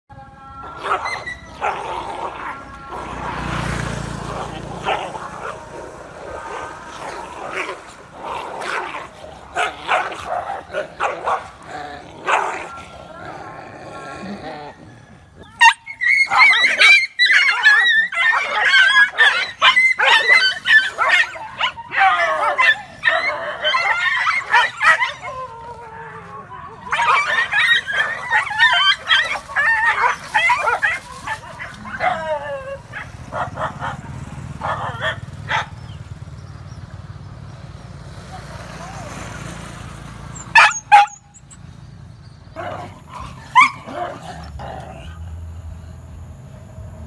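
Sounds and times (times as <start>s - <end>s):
dogs yelping and barking: 0.6s - 36.1s, 40.2s - 45.3s.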